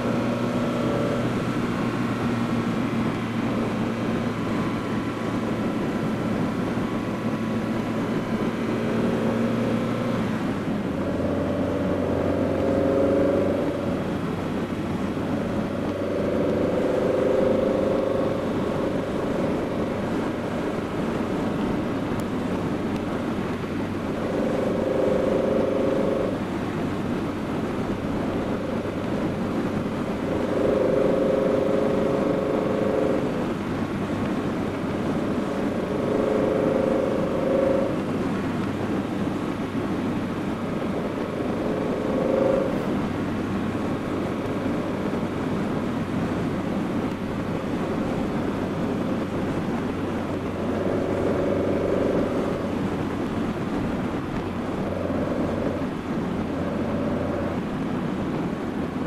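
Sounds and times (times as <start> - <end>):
car engine cruising: 0.0 - 59.0
wind and tyre noise: 0.0 - 59.0.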